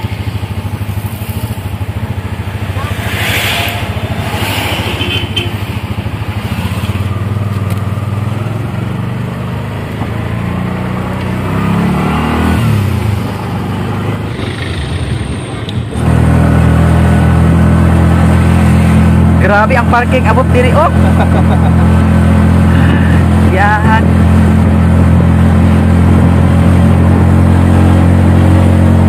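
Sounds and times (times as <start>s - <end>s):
motorcycle engine running: 0.0s - 11.9s, 12.5s - 29.0s.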